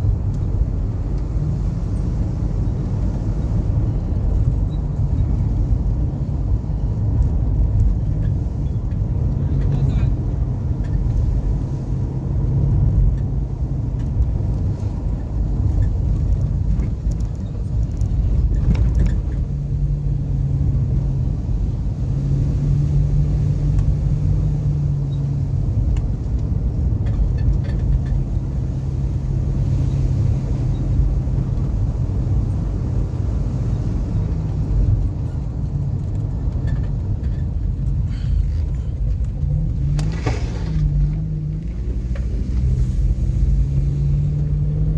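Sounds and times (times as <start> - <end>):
car engine and road noise: 0.0 - 44.9.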